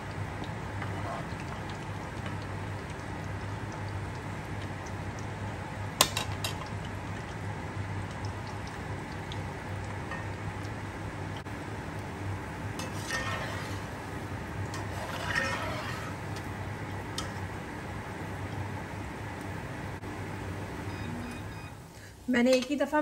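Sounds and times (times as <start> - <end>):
food frying in oil: 0.0 - 23.0
kitchen exhaust fan humming: 0.0 - 23.0.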